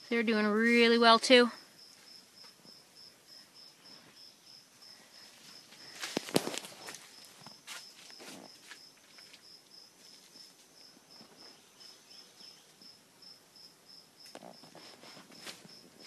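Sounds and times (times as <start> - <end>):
cricket chirping: 1.5 - 16.0.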